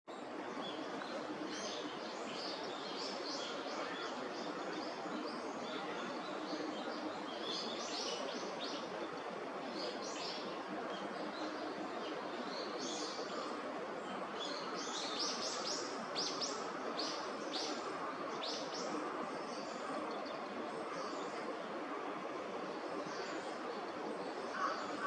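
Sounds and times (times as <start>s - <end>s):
steady background hiss: 0.1s - 25.0s.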